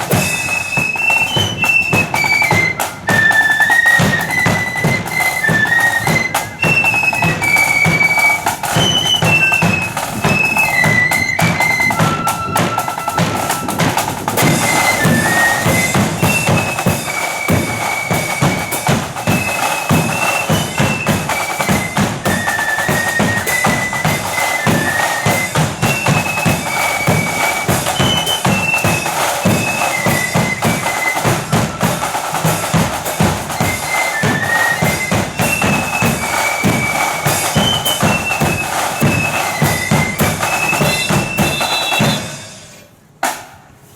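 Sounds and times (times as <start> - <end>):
high flute melody: 0.0 - 42.8
marching bass and snare drums: 0.0 - 43.7.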